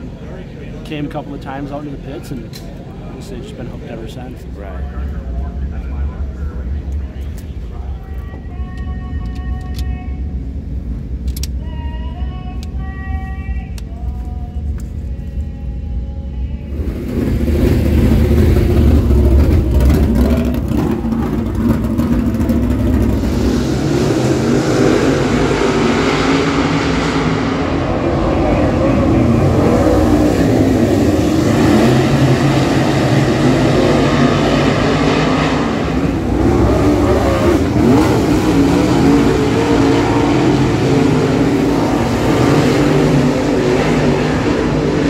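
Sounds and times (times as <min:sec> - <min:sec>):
race car engines droning: 0:00.0 - 0:45.0.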